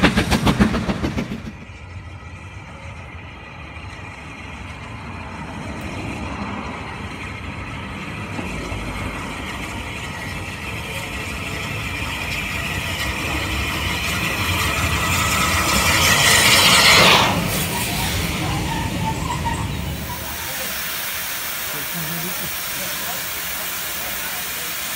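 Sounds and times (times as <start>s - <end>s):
steam locomotive passing: 0.0s - 24.9s.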